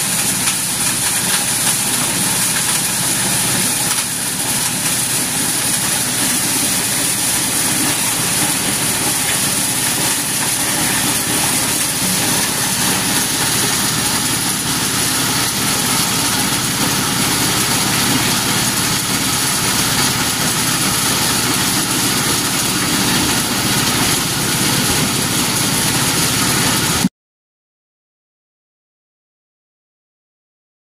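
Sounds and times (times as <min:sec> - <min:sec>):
corn sheller running: 0:00.0 - 0:27.1.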